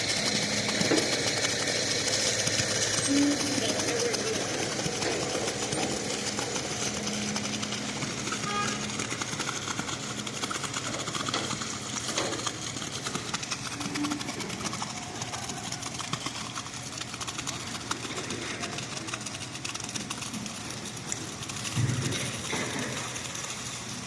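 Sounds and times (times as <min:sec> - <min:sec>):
engine machinery rattling: 0:00.0 - 0:24.0.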